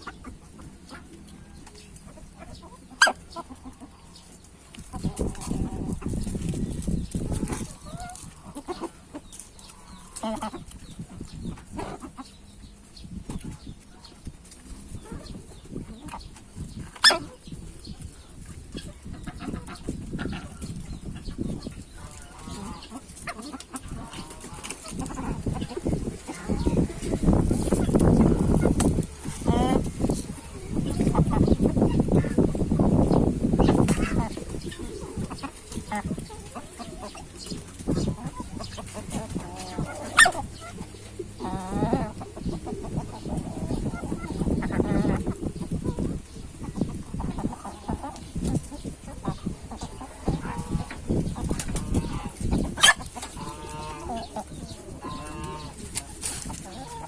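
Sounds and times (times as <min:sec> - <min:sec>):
hen clucking: 0:00.0 - 0:57.0.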